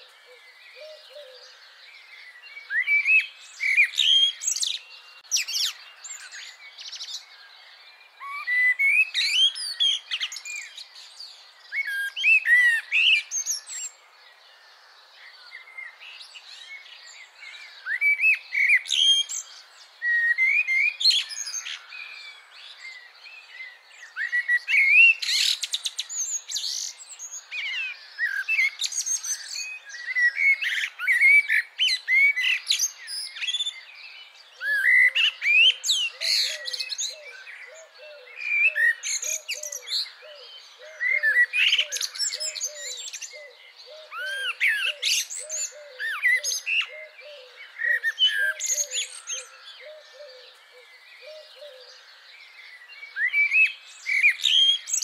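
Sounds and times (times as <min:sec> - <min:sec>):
birds calling and chirping: 0:00.0 - 0:55.0
low repeated bird call: 0:00.0 - 0:55.0.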